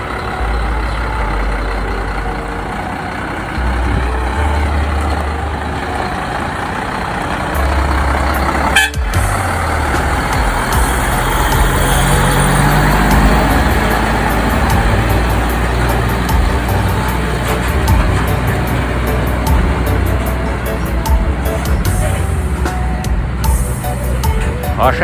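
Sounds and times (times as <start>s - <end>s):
diesel truck engine rumbling: 0.0s - 25.0s.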